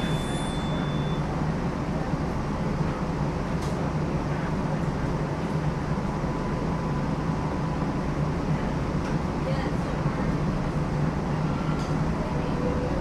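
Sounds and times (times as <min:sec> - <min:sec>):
streetcar running on rails: 0:00.0 - 0:13.0.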